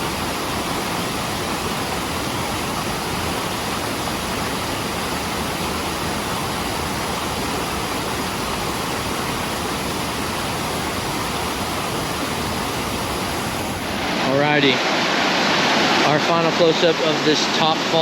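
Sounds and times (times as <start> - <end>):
waterfall pouring: 0.0 - 14.8.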